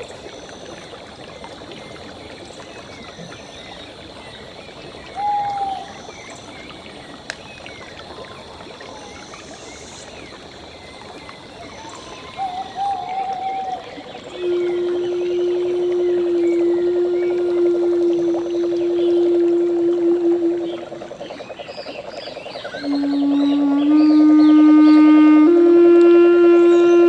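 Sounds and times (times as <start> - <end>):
running water: 0.0 - 27.0.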